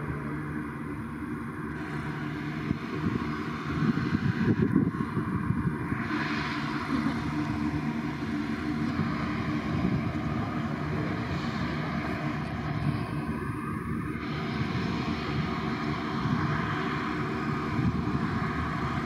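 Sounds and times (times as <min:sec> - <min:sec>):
turboprop engines idling: 0:00.0 - 0:19.0.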